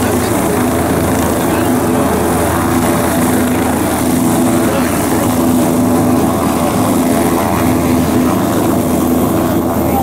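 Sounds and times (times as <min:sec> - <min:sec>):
helicopter turbine and rotor: 0:00.0 - 0:10.0.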